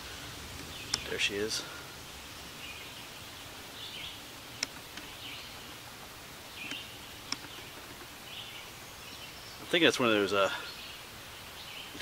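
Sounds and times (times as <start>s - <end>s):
bird chirping faintly: 0.6s - 12.0s.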